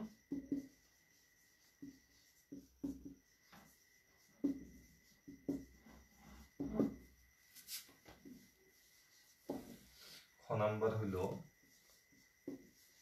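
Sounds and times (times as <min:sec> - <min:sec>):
marker pen writing on whiteboard: 0:00.0 - 0:13.0.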